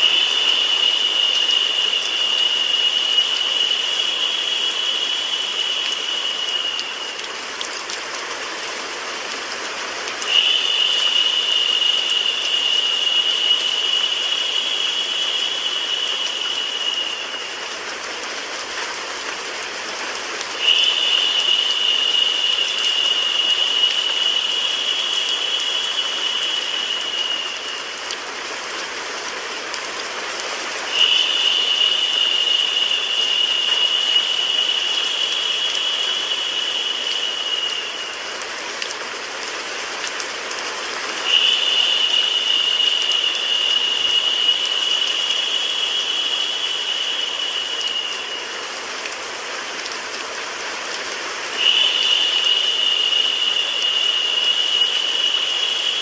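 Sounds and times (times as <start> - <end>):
brighter higher hiss: 0.0 - 7.6, 9.8 - 18.9, 20.5 - 29.1, 30.1 - 49.8
rain with white noise hiss: 0.0 - 56.0.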